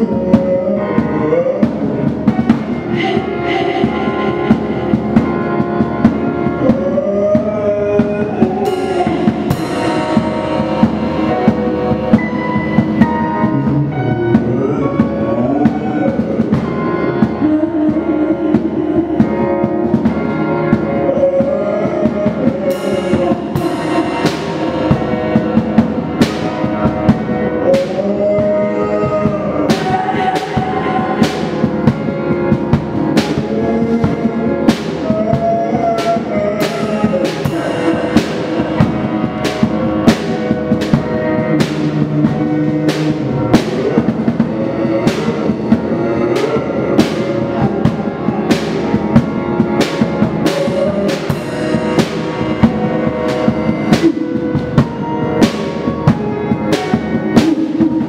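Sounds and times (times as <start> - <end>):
drum kit playing: 0.0 - 58.0
keyboard and synth tones: 0.0 - 58.0.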